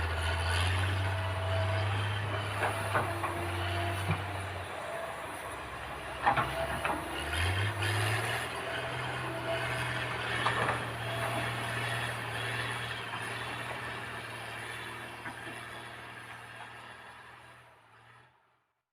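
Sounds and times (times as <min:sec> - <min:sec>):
heavy diesel engine running: 0:00.0 - 0:18.2.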